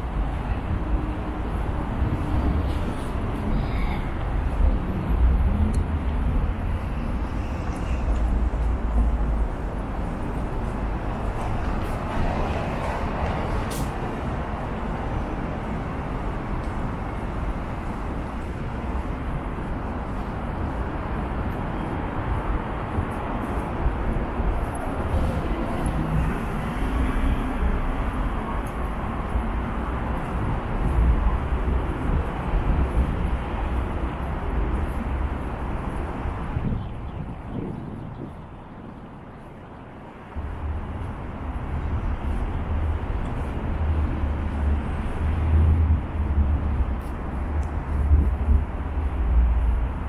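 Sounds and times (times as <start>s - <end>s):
road traffic rumble: 0.0s - 50.0s.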